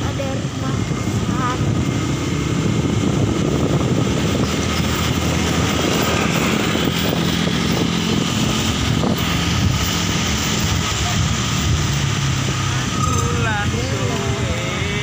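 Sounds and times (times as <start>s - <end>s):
road noise: 0.0s - 15.0s
small motorbike engine running: 0.0s - 15.0s.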